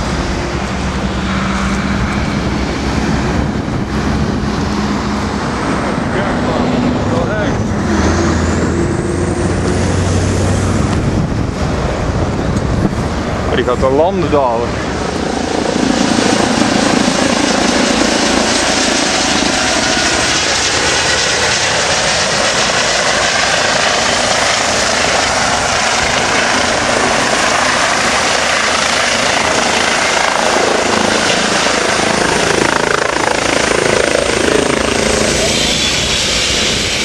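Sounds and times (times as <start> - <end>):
helicopter rotor and turbine: 0.0 - 37.0.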